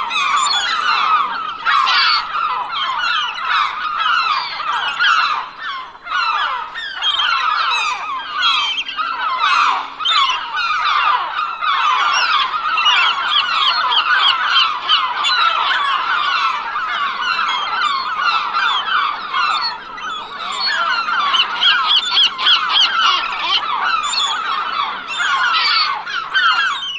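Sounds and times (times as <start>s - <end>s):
flock of birds calling: 0.0s - 26.9s.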